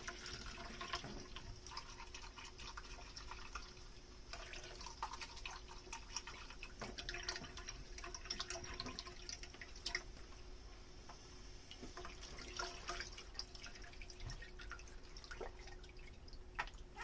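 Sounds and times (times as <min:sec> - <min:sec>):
water dripping and splashing: 0:00.0 - 0:10.6, 0:11.6 - 0:17.0.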